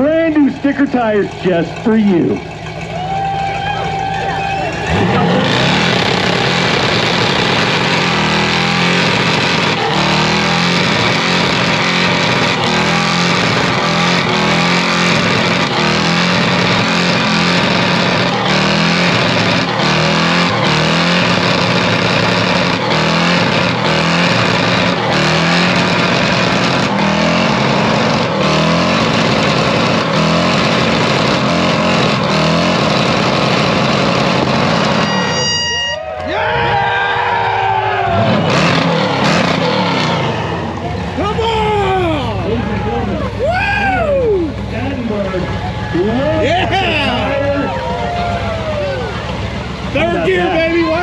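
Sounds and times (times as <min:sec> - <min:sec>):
tires screeching: 0:00.0 - 0:51.0
truck engine revving high: 0:00.0 - 0:51.0.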